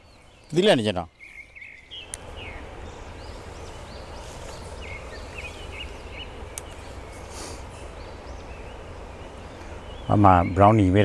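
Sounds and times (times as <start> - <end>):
birds chirping: 0.0 - 11.0
outdoor rumble and hiss: 0.0 - 11.0.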